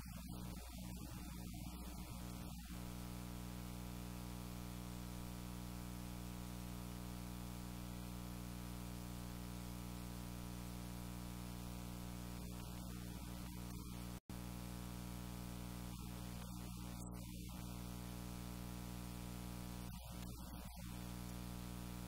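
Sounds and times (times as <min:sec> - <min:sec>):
buzzy electrical hum: 0:00.0 - 0:22.0
faint hiss: 0:00.0 - 0:22.0.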